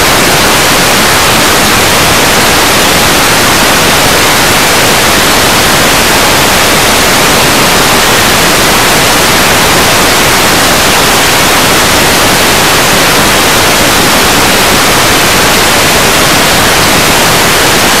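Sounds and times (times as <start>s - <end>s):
loud static hiss: 0.0s - 18.0s.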